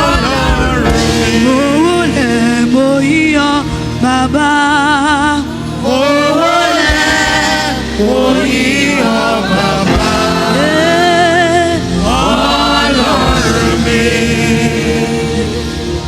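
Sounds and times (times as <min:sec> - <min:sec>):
gospel choir singing: 0:00.0 - 0:16.0.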